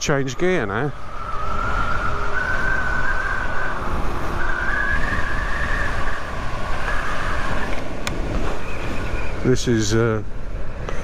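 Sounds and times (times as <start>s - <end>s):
electric motorcycle whine: 0.0s - 11.0s
wind and road noise: 0.0s - 11.0s.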